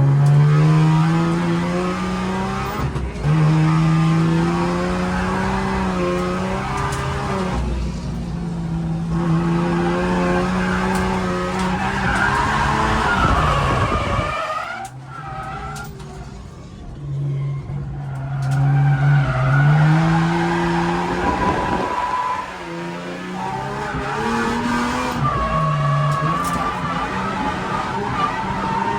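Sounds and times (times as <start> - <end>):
car engine at high revs: 0.0 - 28.9.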